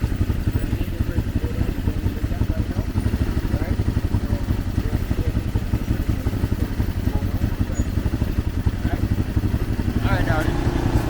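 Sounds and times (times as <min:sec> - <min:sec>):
atv engine chugging: 0:00.0 - 0:11.0.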